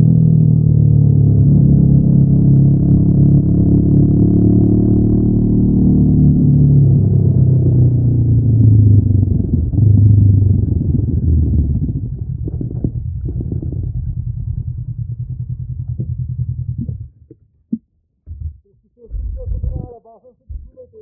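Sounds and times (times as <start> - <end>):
motorcycle engine slowing down: 0.0 - 18.6.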